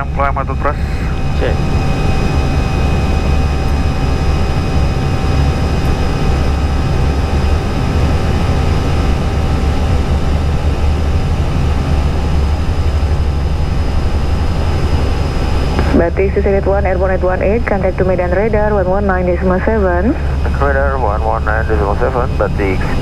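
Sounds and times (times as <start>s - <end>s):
airflow and engine rumble: 0.0s - 23.0s
faint steady whines: 0.0s - 23.0s.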